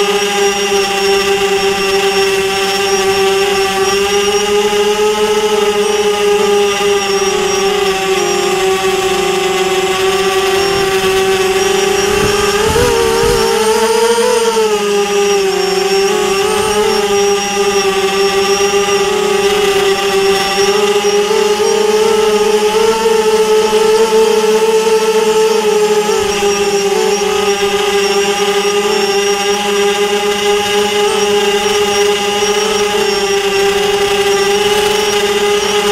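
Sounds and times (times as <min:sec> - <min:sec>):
drone propellers whining: 0:00.0 - 0:35.9.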